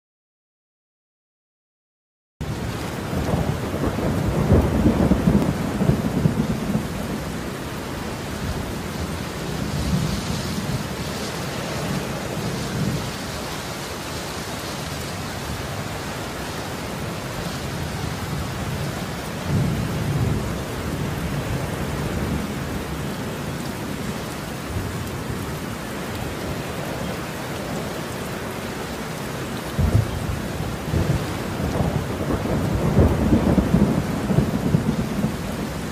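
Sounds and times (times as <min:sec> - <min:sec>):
heavy rain pouring: 0:02.4 - 0:35.9.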